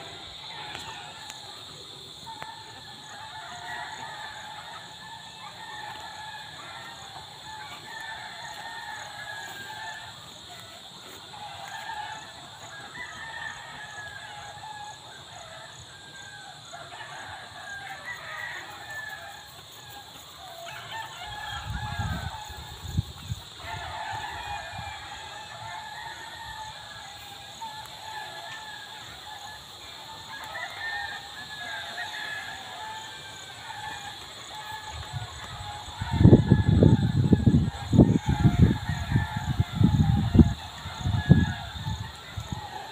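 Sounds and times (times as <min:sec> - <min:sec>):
high insect drone: 0:00.0 - 0:42.9
roosters crowing: 0:00.0 - 0:42.9.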